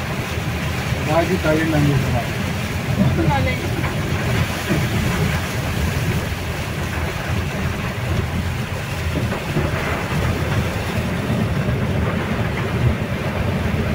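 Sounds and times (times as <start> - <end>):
rushing rain and water: 0.0 - 13.9
vehicle rumbling through floodwater: 0.0 - 13.9.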